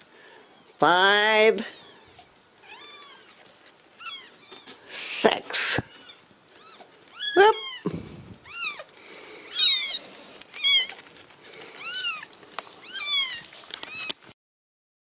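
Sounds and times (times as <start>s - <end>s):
kittens mewing: 1.7s - 14.2s.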